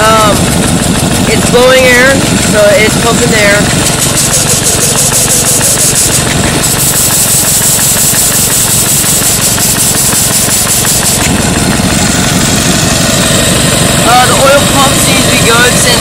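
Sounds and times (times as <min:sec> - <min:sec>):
air compressor chuffing: 0:00.0 - 0:16.0.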